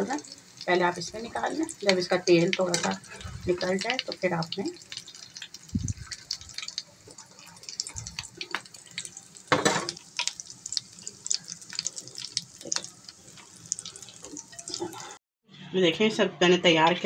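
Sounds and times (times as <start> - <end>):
hot oil sizzling and popping: 0.0 - 15.2.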